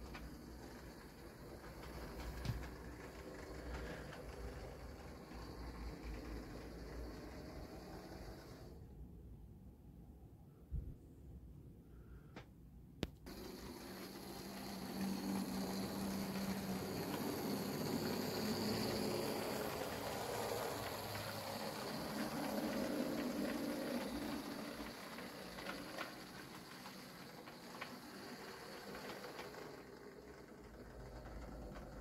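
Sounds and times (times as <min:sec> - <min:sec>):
model train motor hum: 0:00.0 - 0:08.9, 0:13.3 - 0:32.0
wheels rumbling on rails: 0:00.0 - 0:08.9, 0:13.3 - 0:32.0.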